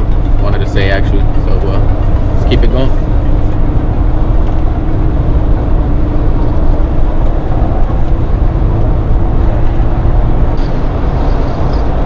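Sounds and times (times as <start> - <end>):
car engine drone in cabin: 0.0 - 12.0
road noise: 0.0 - 12.0.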